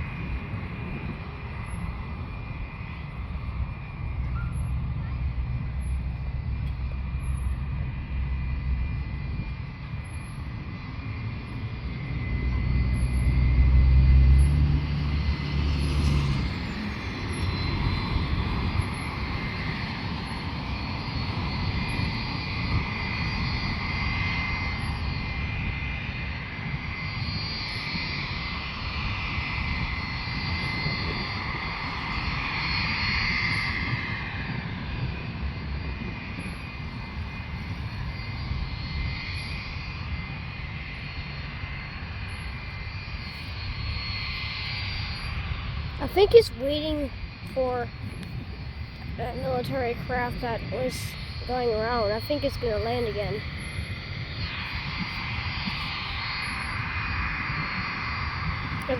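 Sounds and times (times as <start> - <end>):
airplane engines whining: 0.0 - 58.9.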